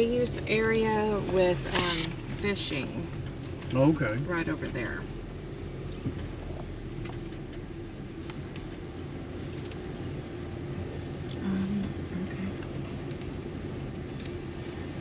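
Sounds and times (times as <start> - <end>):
car driving on paved road: 0.0 - 15.0
faint steady hum: 0.0 - 15.0.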